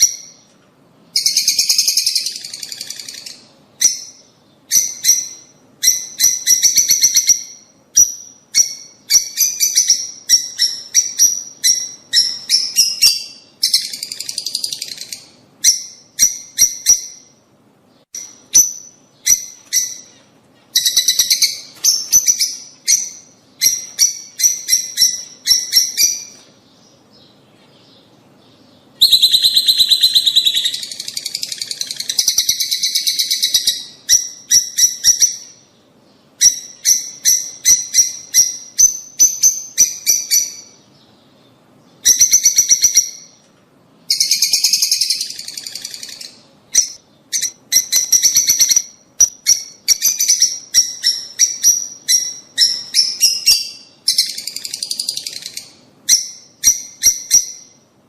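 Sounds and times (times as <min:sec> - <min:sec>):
lovebirds chirping shrilly: 0:01.1 - 0:43.4, 0:44.1 - 0:57.8.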